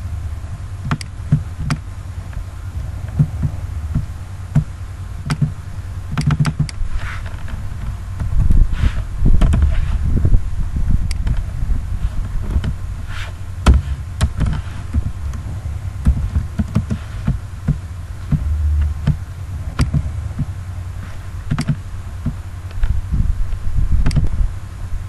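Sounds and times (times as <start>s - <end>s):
low rumble and hum: 0.0s - 25.0s.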